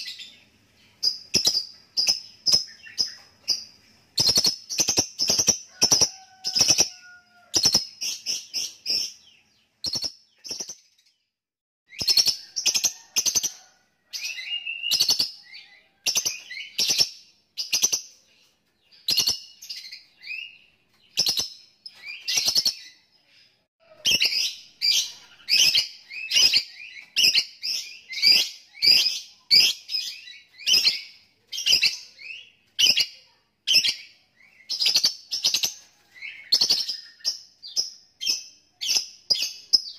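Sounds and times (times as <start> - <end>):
lovebird chirping: 0.0 - 11.3, 11.9 - 13.5, 14.1 - 39.9.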